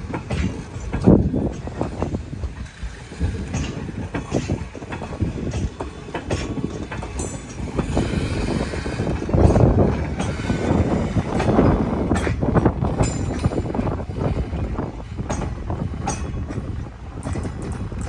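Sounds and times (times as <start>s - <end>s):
train rumble: 0.0s - 18.0s
train wheels clattering: 0.0s - 18.0s.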